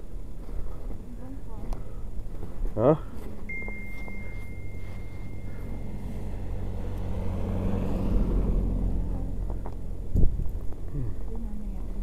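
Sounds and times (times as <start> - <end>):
car engine running: 0.0 - 12.0
tires rolling over snow: 0.0 - 12.0.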